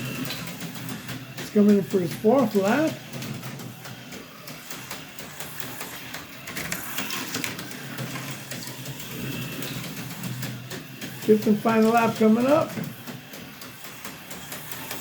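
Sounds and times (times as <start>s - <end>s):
slot car motor whirring: 0.0s - 15.0s.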